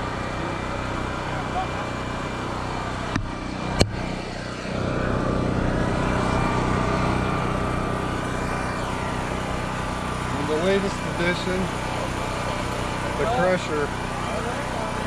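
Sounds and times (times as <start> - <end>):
small gas engine running: 0.0 - 15.0.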